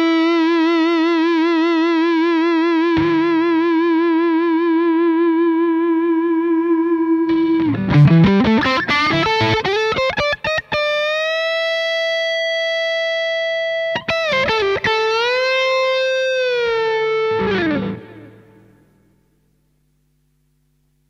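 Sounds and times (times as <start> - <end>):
electric guitar playing notes: 0.0 - 19.1.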